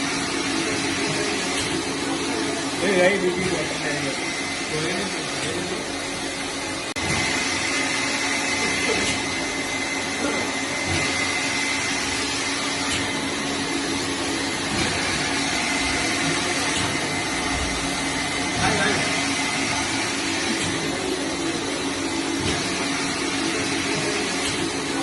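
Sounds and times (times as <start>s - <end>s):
bottle washing machine running: 0.0s - 25.0s.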